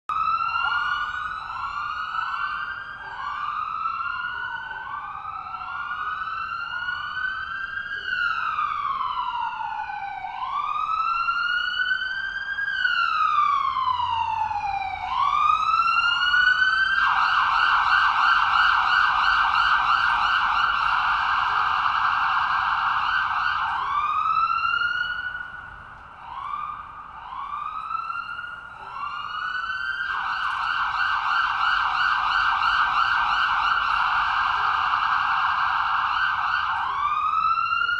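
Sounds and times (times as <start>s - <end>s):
ambulance sirens whooping: 0.1s - 37.9s
siren fast yelp: 0.1s - 37.9s
siren wail: 0.1s - 37.9s.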